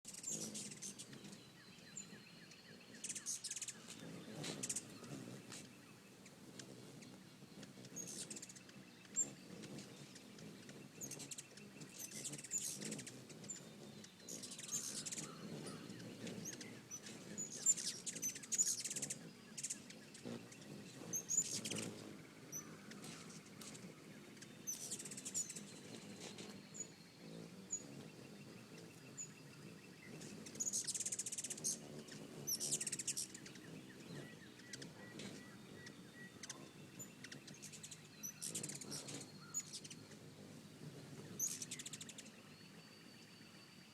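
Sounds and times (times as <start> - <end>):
hummingbirds chipping: 0.0 - 43.9.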